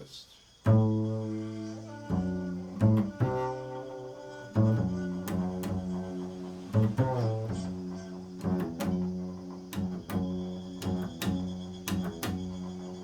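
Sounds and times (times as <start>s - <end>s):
low string instrument notes: 0.7s - 13.0s.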